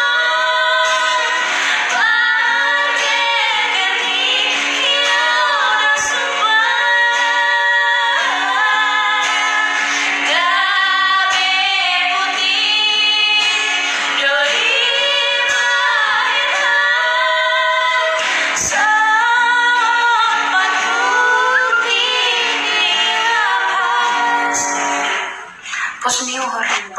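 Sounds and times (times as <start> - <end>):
strummed acoustic guitar: 0.0 - 26.9
women singing together: 0.0 - 26.9.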